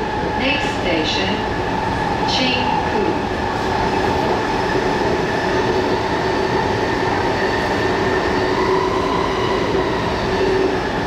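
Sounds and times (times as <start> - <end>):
metro wheels rumbling on rail: 0.0 - 11.0
train hum: 0.0 - 11.0.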